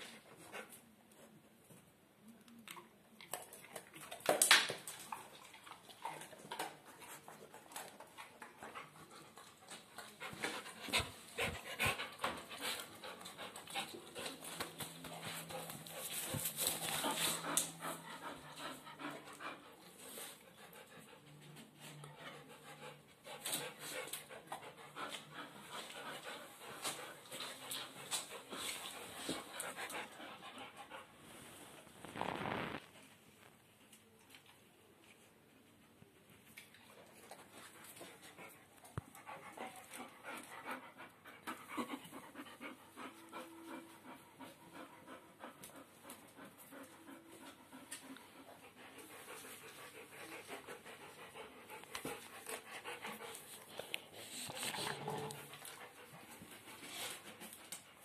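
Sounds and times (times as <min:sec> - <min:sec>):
dog panting: 0:05.0 - 0:31.2, 0:35.6 - 0:58.0.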